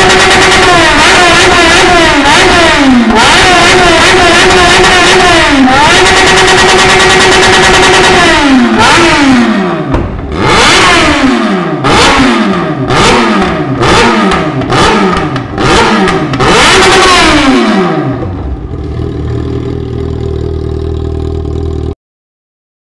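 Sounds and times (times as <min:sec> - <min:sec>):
motorcycle engine revving and idling: 0:00.0 - 0:22.0.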